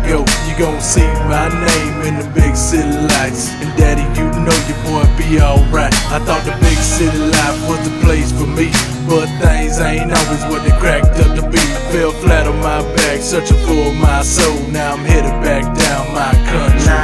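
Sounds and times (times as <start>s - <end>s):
music with deep bass beat: 0.0s - 17.0s.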